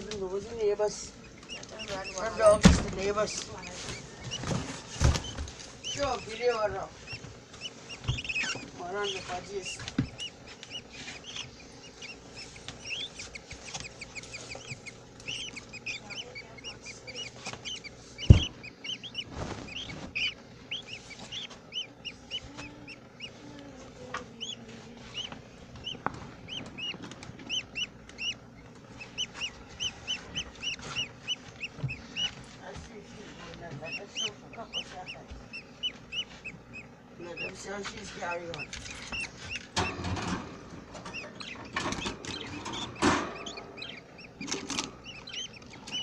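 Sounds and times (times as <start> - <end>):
budgerigars chirping: 0.0 - 46.0.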